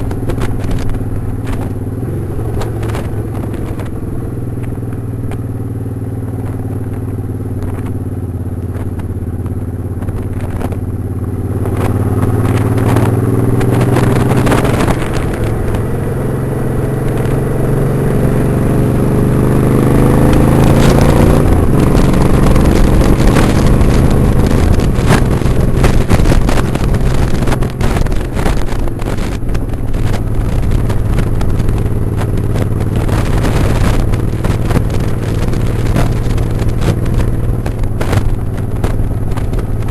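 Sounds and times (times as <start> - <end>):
motorcycle engine accelerating: 0.0 - 39.9
wind buffeting microphone: 0.0 - 39.9.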